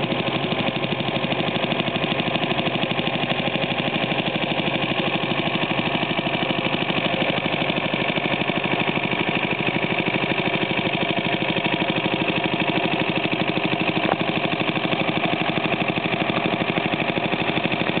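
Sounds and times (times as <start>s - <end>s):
generator engine running: 0.0s - 18.0s.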